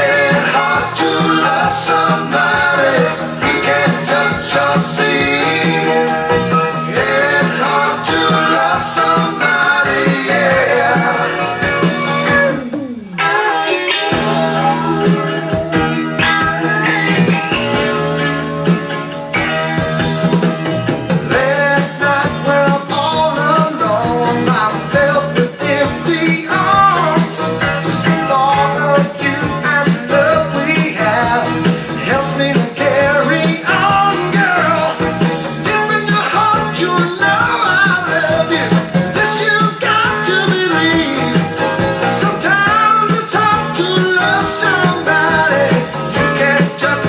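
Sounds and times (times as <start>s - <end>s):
rock song with singing and guitar: 0.0s - 47.0s.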